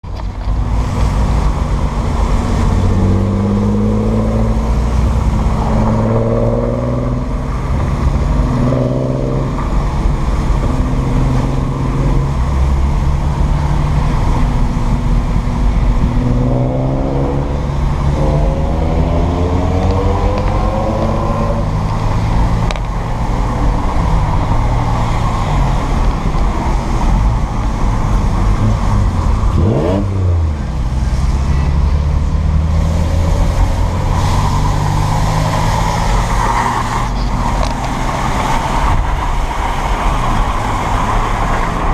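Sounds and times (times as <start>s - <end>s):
car engine revving loud: 0.7s - 41.9s.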